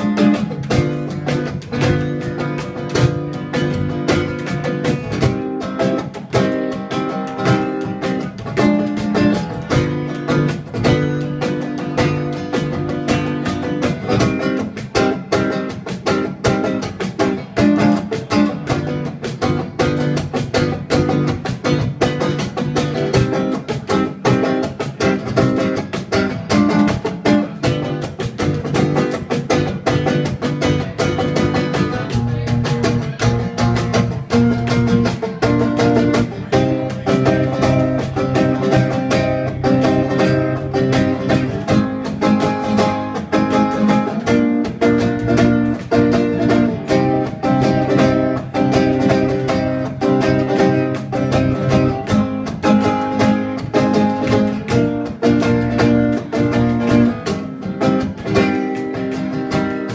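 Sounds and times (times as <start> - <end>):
acoustic guitar strumming: 0.0 - 59.9
cajon beat: 0.0 - 59.9.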